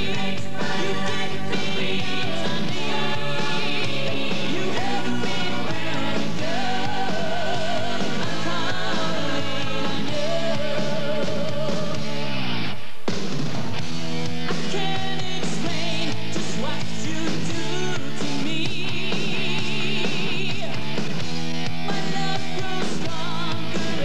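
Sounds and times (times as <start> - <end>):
rock song with singing: 0.0 - 24.0.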